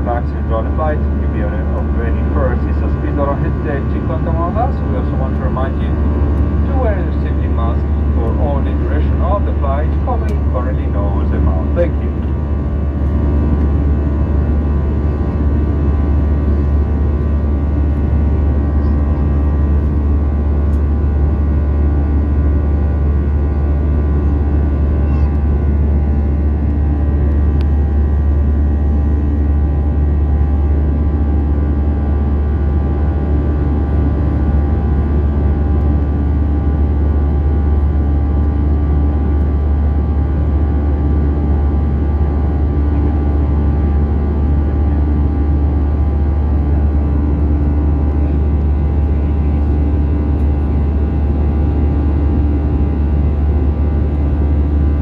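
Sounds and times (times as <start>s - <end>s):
jet engines droning: 0.0s - 55.0s
low hum: 0.0s - 55.0s.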